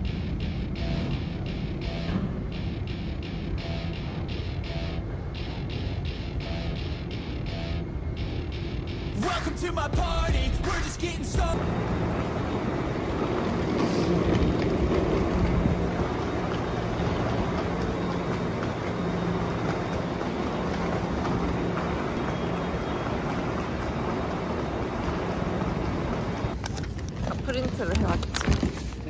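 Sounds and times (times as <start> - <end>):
metro station rumble: 0.0 - 29.0.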